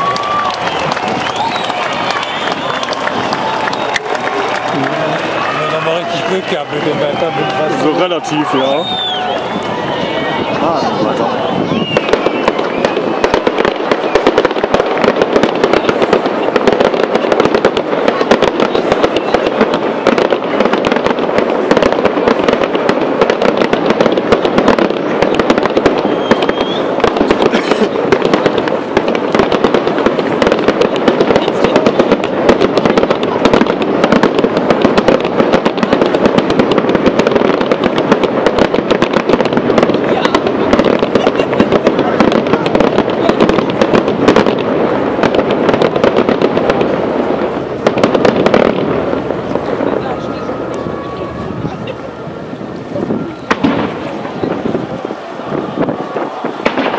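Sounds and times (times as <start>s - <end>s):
fireworks crackling and popping: 0.0s - 56.9s.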